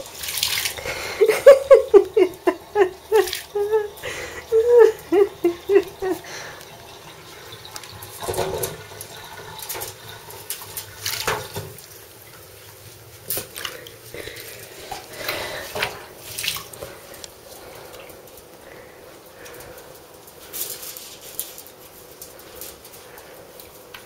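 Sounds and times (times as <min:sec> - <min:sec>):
bathwater splashing and sloshing: 0:00.0 - 0:19.8.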